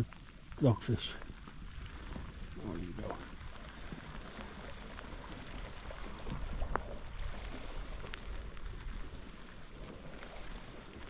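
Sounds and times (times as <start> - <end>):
faint ticks: 0.0 - 11.0
sea water washing: 0.0 - 11.0.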